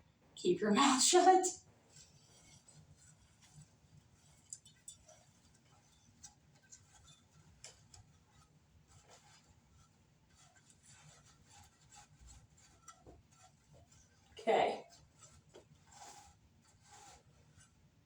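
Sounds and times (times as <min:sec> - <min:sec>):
faint clicks and ticks: 0:01.9 - 0:17.7.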